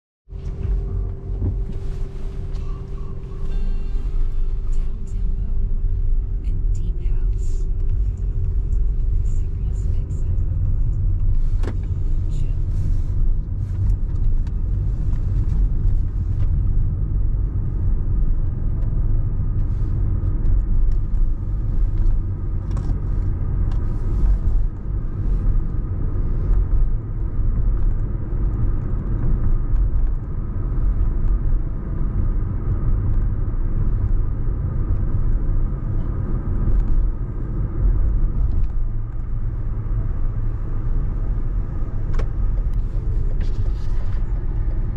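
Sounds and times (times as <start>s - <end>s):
car road and engine rumble: 0.3s - 44.9s.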